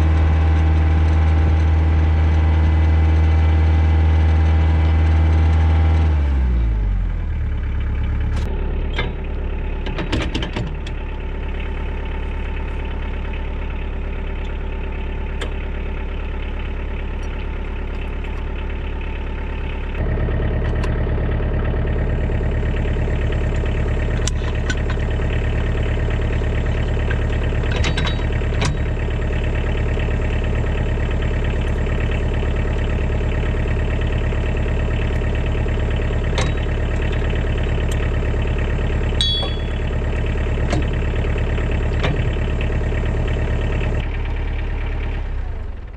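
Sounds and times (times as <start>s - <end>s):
tractor diesel engine idling: 0.0s - 45.9s.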